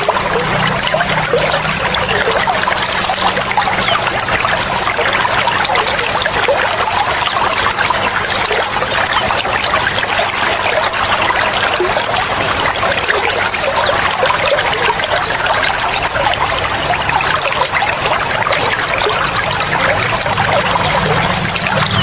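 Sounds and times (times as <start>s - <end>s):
birds calling: 0.0s - 22.0s
flowing splashing water: 0.0s - 22.0s.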